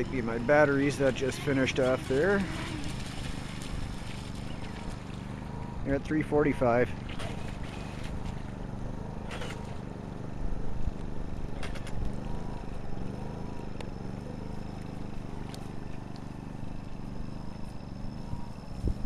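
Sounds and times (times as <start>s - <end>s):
electric motor humming: 0.0s - 19.0s.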